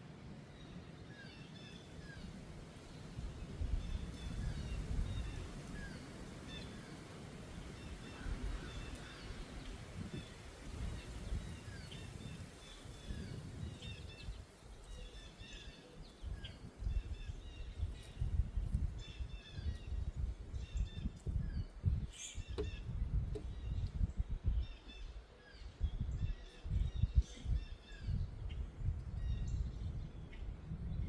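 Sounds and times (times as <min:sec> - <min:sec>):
wind gusting against microphone: 0:02.0 - 0:31.0
small birds chirping: 0:03.9 - 0:30.6.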